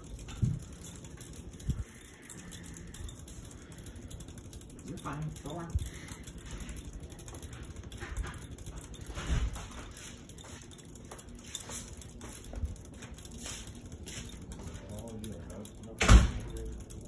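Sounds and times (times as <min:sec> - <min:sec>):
ceiling fan running: 0:00.0 - 0:17.0.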